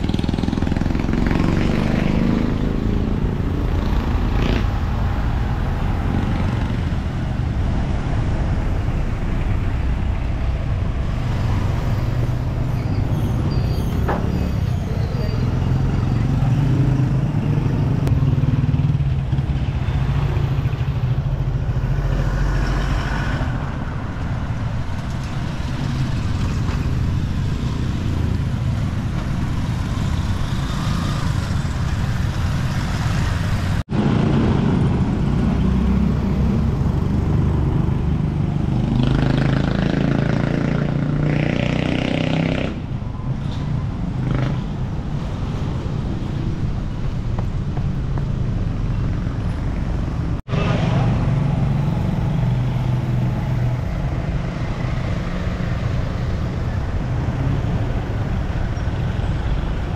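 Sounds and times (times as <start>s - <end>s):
motorcycle tricycle engine: 0.0s - 23.0s, 23.7s - 59.9s
motorcycle engines passing: 0.0s - 59.9s.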